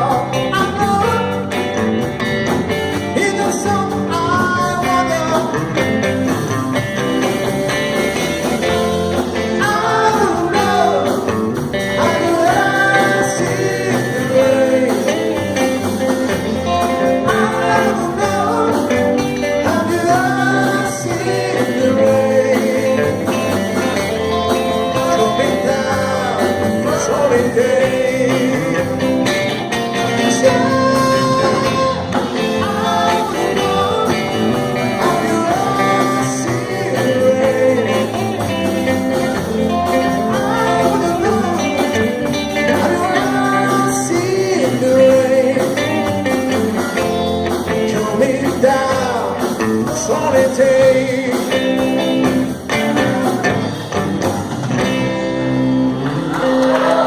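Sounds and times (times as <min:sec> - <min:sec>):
person singing: 0:00.0 - 0:01.6, 0:03.0 - 0:05.9, 0:09.1 - 0:53.9
guitar-led rock band: 0:00.0 - 0:57.0.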